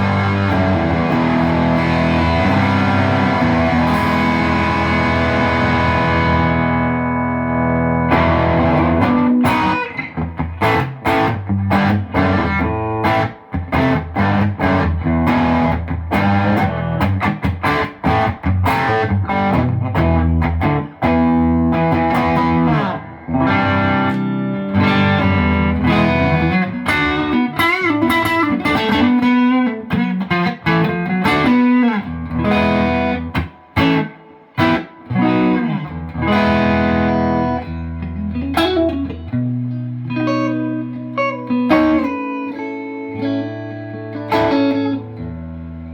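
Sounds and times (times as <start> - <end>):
overdriven electric guitar: 0.0 - 45.9.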